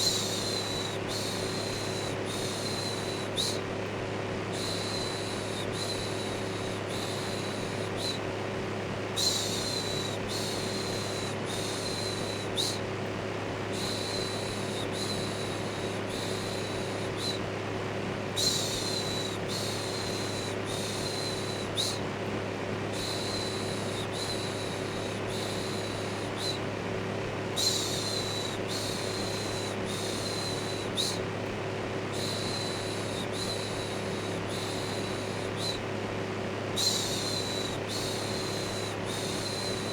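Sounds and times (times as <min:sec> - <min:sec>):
electric fan hum: 0:00.0 - 0:39.9.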